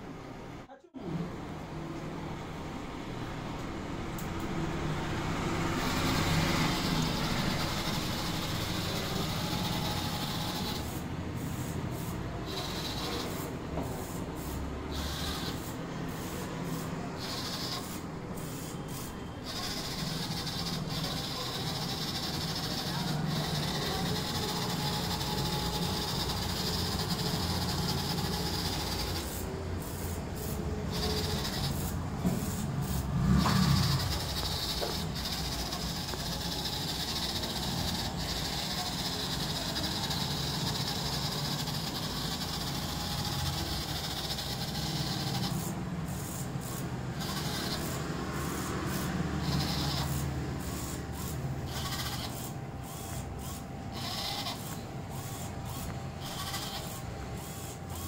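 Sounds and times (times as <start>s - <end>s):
small gear motors whining: 4.1s - 58.0s.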